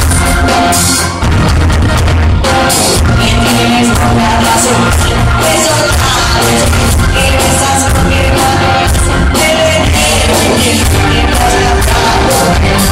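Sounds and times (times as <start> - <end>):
live rock band playing: 0.0 - 12.9
steady drum beat: 0.0 - 12.9
person singing: 2.4 - 12.9.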